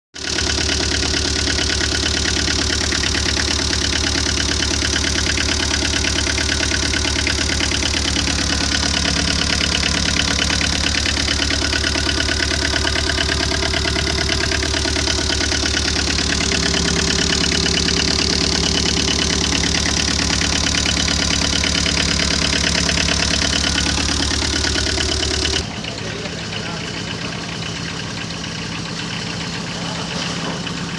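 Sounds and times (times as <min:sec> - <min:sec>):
truck engine idling: 0:00.2 - 0:30.9.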